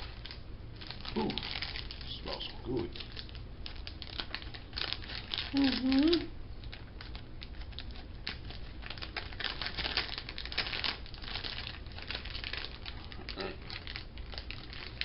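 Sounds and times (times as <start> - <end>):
plastic candy bag crinkling: 0.0 - 15.0.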